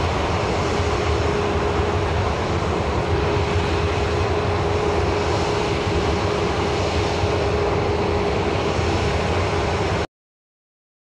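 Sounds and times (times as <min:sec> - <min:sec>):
jet engines rumbling drone: 0:00.0 - 0:10.1.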